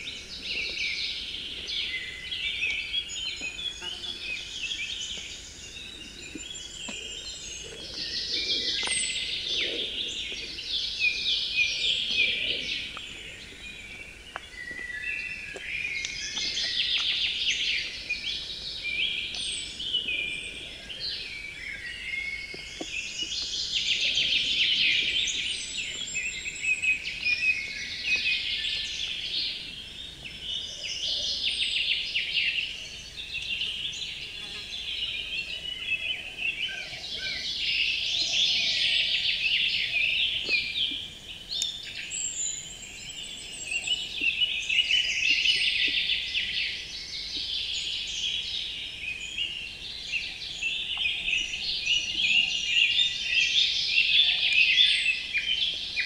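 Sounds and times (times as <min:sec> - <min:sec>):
birds singing: 0:00.0 - 0:56.0.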